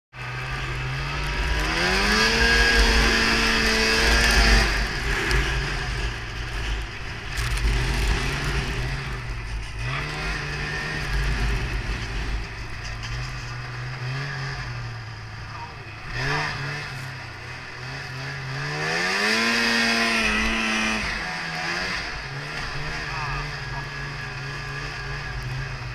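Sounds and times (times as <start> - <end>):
snowmobile engine revving: 0.2 - 25.9.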